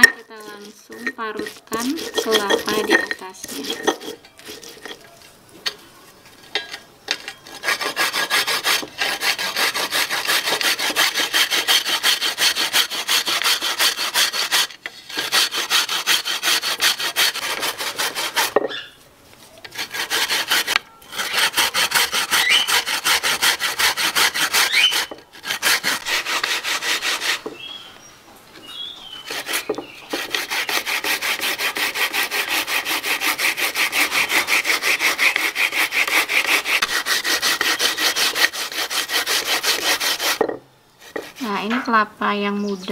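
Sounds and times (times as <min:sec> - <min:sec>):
coconut scraped on a grater: 0:00.0 - 0:05.2, 0:07.2 - 0:18.9, 0:19.7 - 0:27.7, 0:29.1 - 0:41.7.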